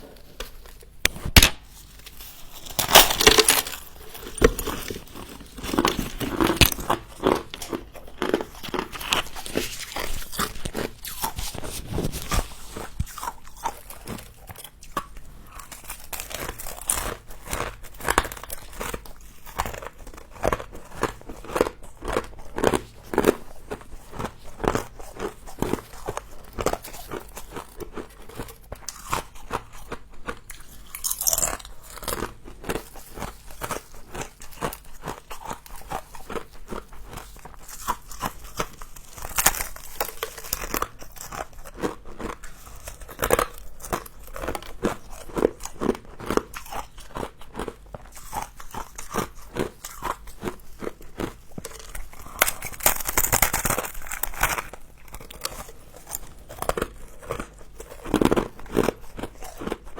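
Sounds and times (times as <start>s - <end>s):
crunchy frost being chewed: 0.0s - 59.9s.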